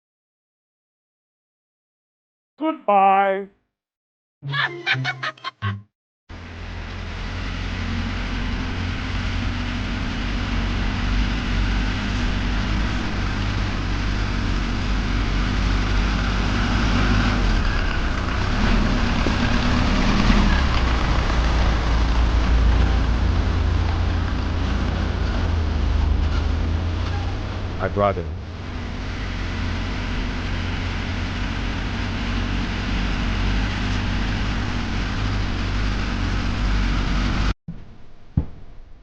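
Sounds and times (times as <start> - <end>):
vehicle engine rumble: 6.3 - 39.0.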